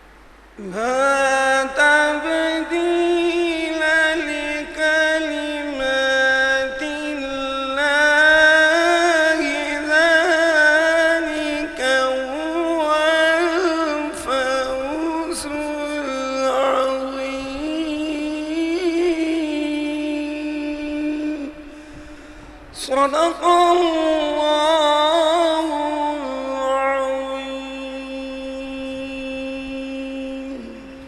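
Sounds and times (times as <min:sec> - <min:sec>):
man reciting melodically: 0:00.6 - 0:31.0.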